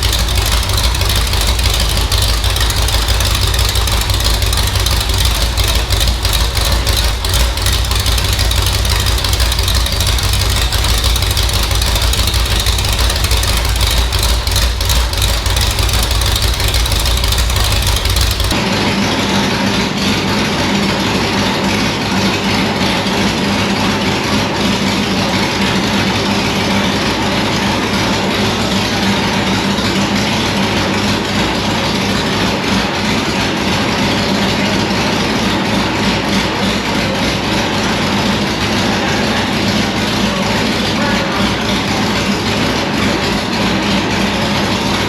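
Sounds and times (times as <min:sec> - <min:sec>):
race car engine running steadily: 0:00.0 - 0:45.0.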